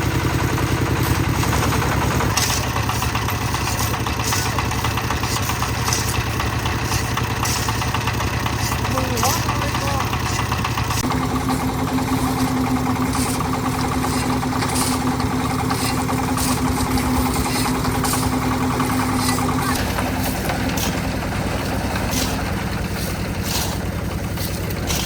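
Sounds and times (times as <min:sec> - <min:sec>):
concrete mixer engine running: 0:00.0 - 0:25.0.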